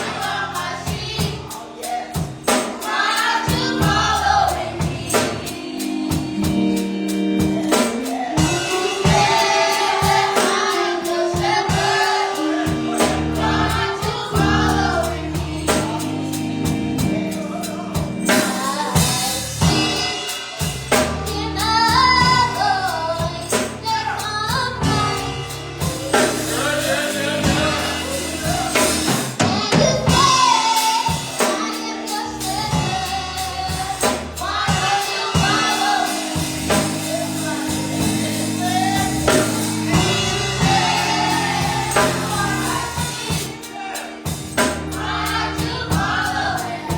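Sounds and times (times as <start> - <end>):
choir singing: 0.0 - 46.9
drum kit beat: 0.0 - 46.9
keyboard and bass chords: 0.0 - 46.9.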